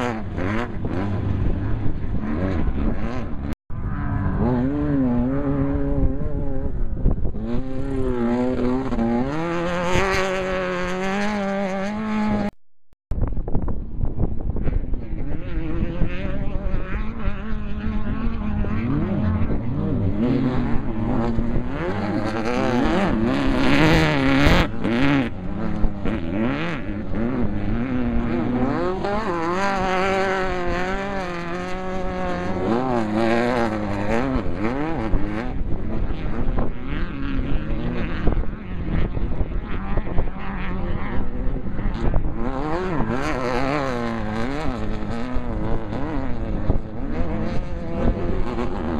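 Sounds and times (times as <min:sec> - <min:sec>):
race vehicle engines revving: 0:00.0 - 0:12.6, 0:14.4 - 0:48.9.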